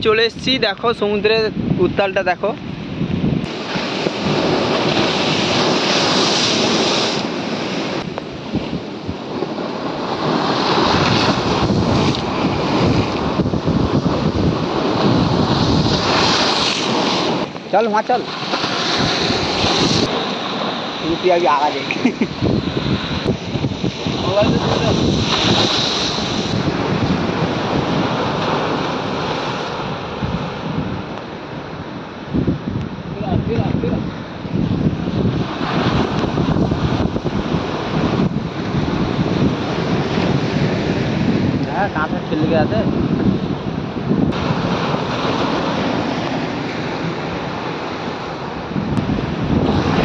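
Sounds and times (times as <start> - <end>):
surf washing over sea wall: 0.0 - 50.0.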